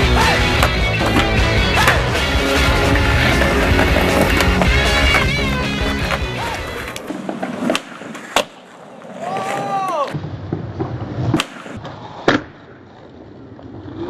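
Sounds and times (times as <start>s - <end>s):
skateboard wheels rolling: 0.0s - 14.0s
skateboard clacks popping and landing: 0.5s - 2.2s, 2.9s - 14.0s.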